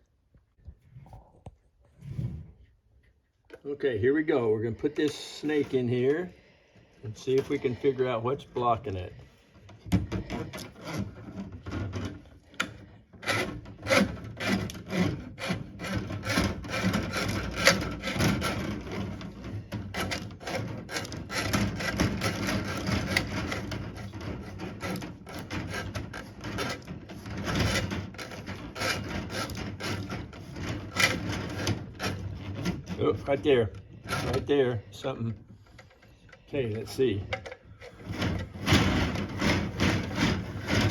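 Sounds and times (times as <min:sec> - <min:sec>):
plumbing snake scraping pipe: 0:04.2 - 0:06.3, 0:07.0 - 0:40.9.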